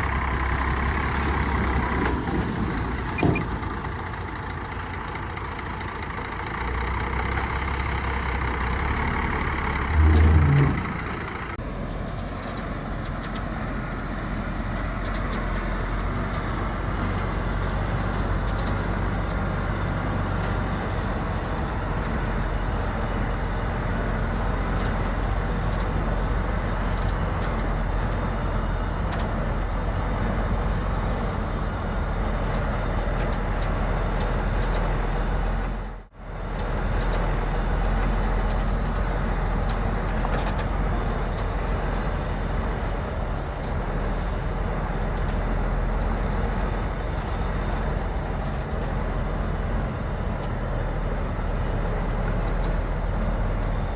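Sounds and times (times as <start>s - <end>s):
diesel engine rumbling: 0.0s - 53.9s.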